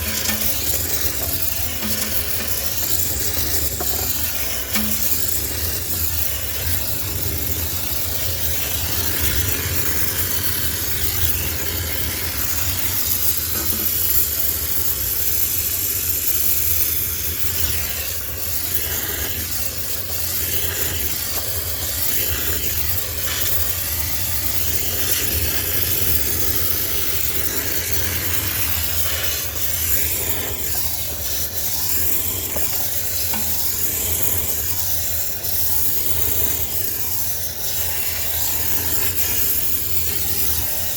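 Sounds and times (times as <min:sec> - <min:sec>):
steam jet hissing: 0:00.0 - 0:40.9.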